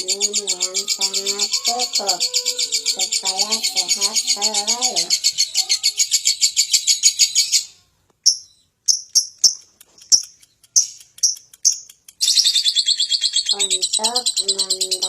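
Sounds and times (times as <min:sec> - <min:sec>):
lovebird chirping: 0:00.0 - 0:15.0.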